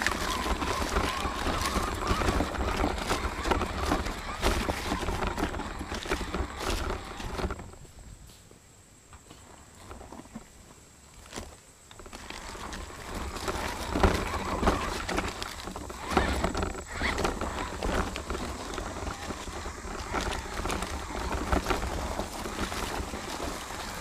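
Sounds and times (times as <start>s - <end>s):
toy car crunching over stones: 0.0s - 7.9s, 9.3s - 24.0s.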